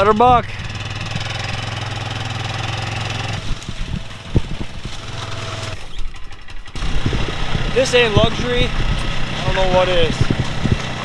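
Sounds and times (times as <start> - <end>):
atv engine running: 0.0 - 11.0
knocks and rattles: 0.0 - 11.0.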